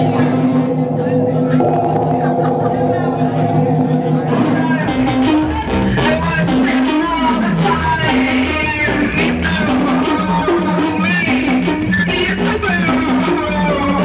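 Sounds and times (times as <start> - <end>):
loud live music with bass line: 0.0 - 14.0.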